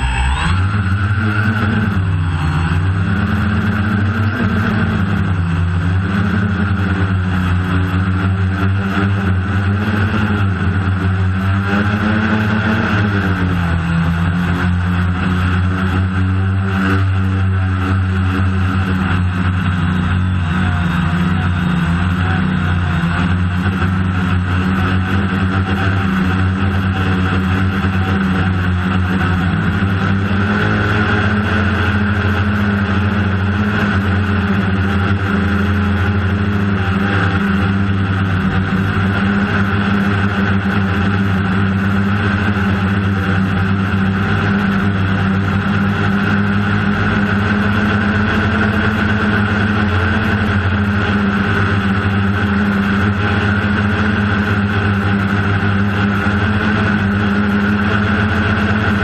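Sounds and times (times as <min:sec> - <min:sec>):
drone propellers whirring: 0:00.0 - 0:59.0.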